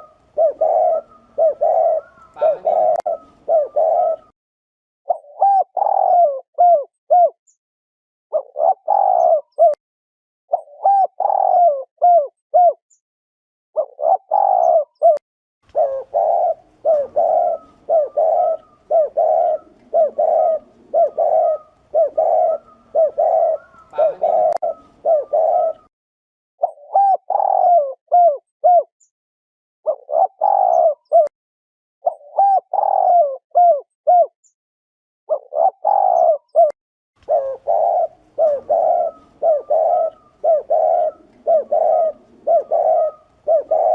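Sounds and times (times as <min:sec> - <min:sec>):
dove cooing: 0:00.0 - 0:04.3, 0:05.1 - 0:07.4, 0:08.3 - 0:09.8, 0:10.5 - 0:12.8, 0:13.8 - 0:25.9, 0:26.6 - 0:28.9, 0:29.9 - 0:31.3, 0:32.0 - 0:34.3, 0:35.3 - 0:43.9.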